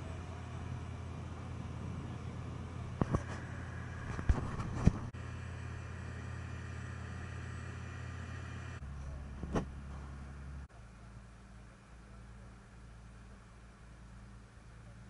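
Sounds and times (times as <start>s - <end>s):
motorboat engine drone: 0.0s - 15.0s.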